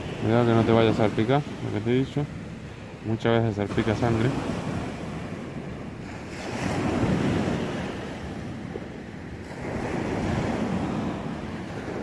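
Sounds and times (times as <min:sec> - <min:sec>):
sea waves washing on shore: 0:00.0 - 0:12.0
wind on microphone: 0:00.0 - 0:12.0.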